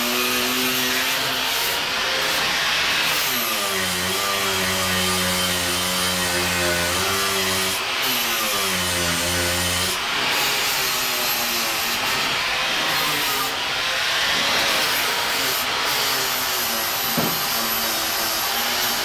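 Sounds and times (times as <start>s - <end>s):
electric power tool motor: 0.0s - 19.0s.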